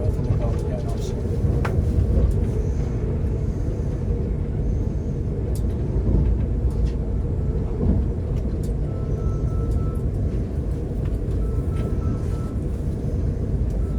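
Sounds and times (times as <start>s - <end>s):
train rumbling on track: 0.0s - 13.9s.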